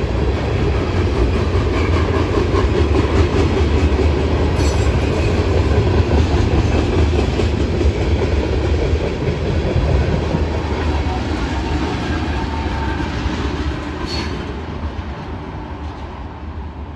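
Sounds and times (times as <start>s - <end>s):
freight train wheels rumbling on rails: 0.0s - 16.9s.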